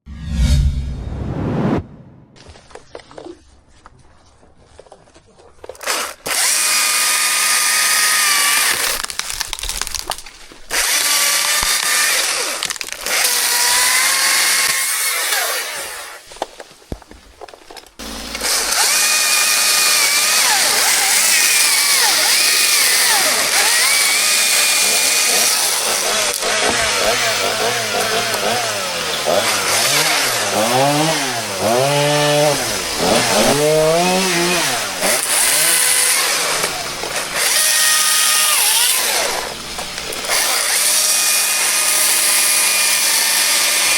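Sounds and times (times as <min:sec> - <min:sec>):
chainsaw cutting wood: 0:05.7 - 0:16.3, 0:18.0 - 0:43.9.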